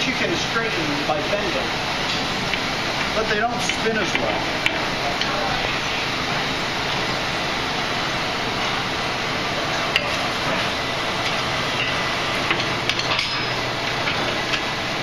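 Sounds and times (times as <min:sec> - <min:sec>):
forge blown air rushing: 0:00.0 - 0:15.0.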